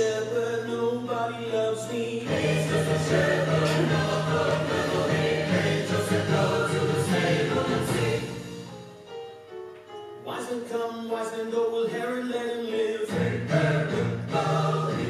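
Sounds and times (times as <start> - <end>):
choir-style vocals in harmony: 0.0 - 8.9, 10.4 - 15.0.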